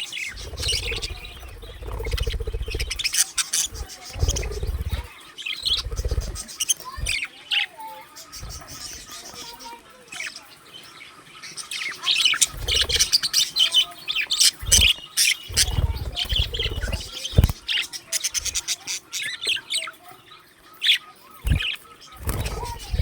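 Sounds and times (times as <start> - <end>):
budgerigars chirping and chattering: 0.0 - 23.0.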